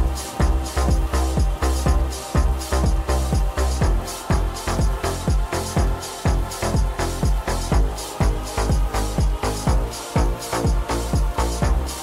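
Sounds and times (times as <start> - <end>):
house dance music: 0.0 - 12.0.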